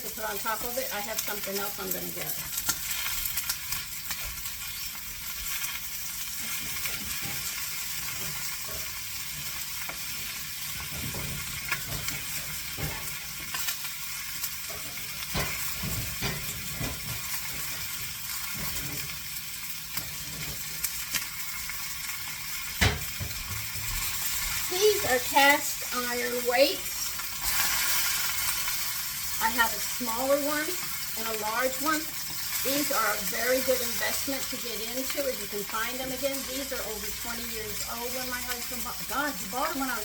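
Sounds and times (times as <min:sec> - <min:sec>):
chicken sizzling in oil: 0:00.0 - 0:40.0.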